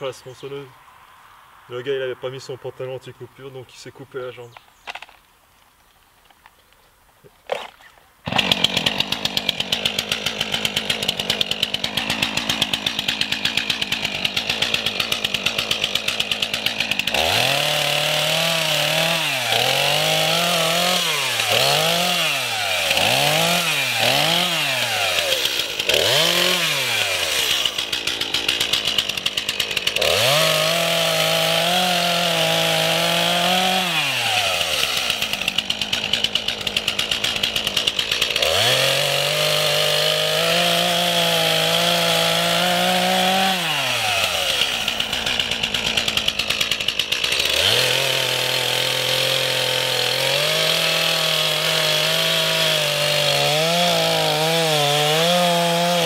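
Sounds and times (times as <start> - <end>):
chainsaw engine revving and idling: 7.5 - 56.0.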